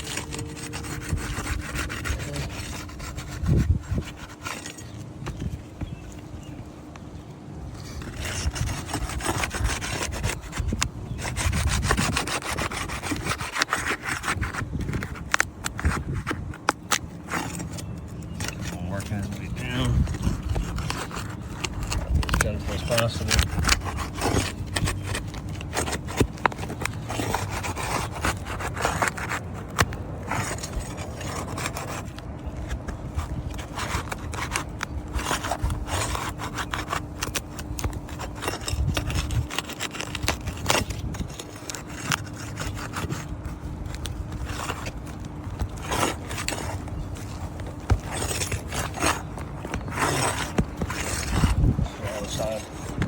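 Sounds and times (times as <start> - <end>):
tool scraping under shingles: 0.0 - 7.1, 7.7 - 53.0.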